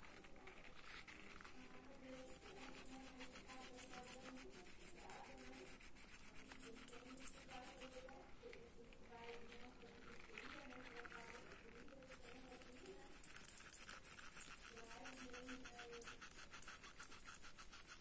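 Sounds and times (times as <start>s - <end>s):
pencil scratching on paper: 0.0s - 18.0s.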